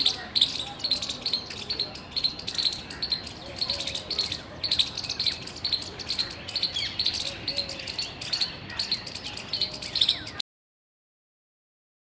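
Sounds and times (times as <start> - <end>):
faint bird calls: 0.0 - 10.4
squirrel chirping: 0.0 - 10.4.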